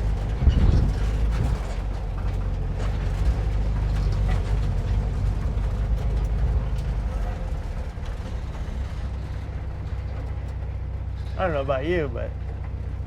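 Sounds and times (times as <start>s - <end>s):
body rattling and clicking: 0.0s - 11.4s, 12.4s - 13.0s
van engine and tyres rumbling: 0.0s - 13.0s.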